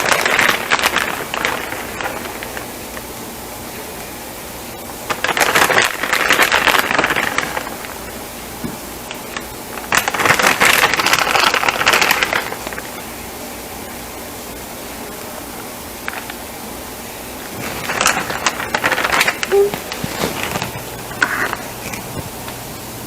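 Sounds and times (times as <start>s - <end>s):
crackly rustling of shredded cheese: 0.0s - 4.2s, 4.9s - 8.4s, 9.0s - 13.3s, 15.1s - 22.8s.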